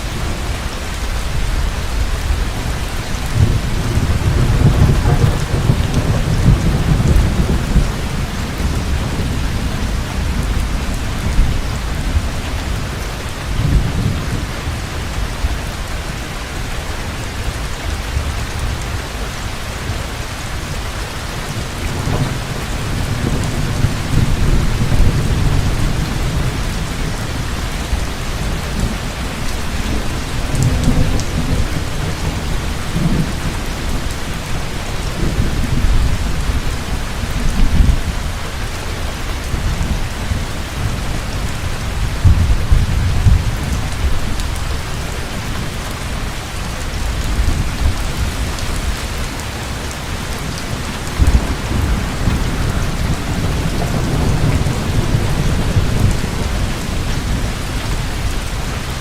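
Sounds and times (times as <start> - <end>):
low rolling thunder: 0.0 - 16.2, 19.8 - 59.0
heavy rain pouring: 0.0 - 59.0.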